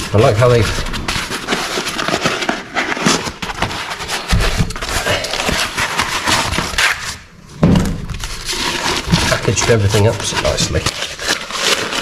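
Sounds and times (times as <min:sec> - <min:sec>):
paper and cardboard crinkling: 0:00.0 - 0:12.0.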